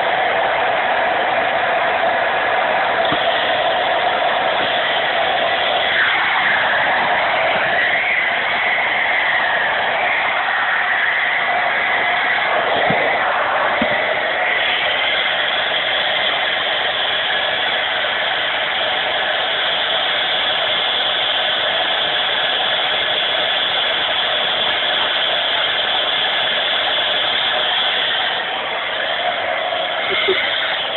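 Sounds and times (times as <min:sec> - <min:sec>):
hair dryer running: 0:00.0 - 0:30.9.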